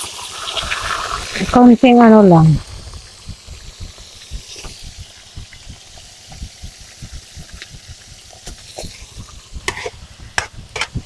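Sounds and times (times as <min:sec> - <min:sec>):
oil bubbling and popping: 0:00.0 - 0:11.0.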